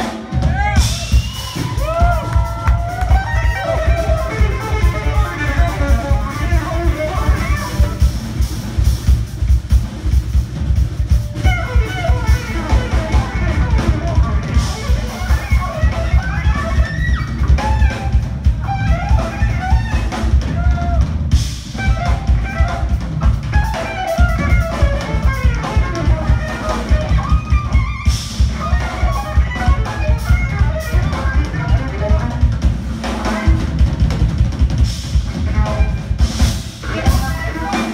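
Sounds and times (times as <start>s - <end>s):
bass: 0.0s - 37.9s
drum kit: 0.0s - 37.9s.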